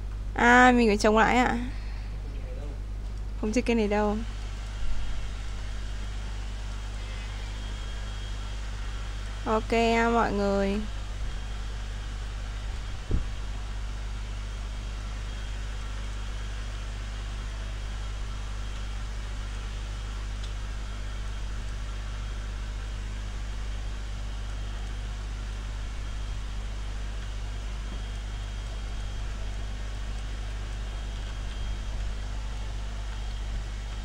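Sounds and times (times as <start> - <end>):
room hum and hiss: 0.0 - 34.0.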